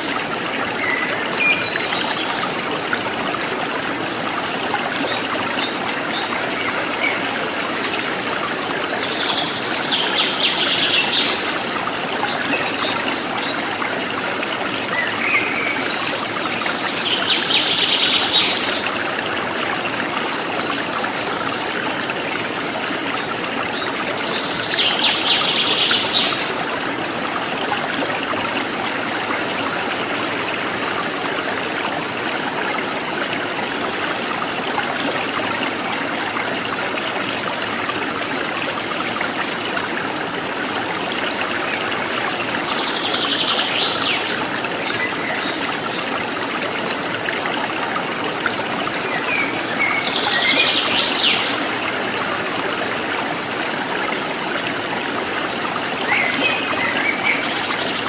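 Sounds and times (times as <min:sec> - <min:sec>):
water trickling over rocks: 0:00.0 - 0:58.0.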